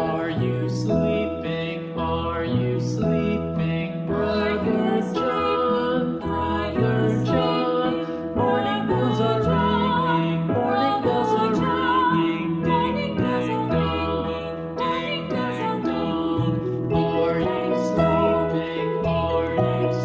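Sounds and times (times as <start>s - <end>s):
melody over sustained chords: 0.0s - 20.0s.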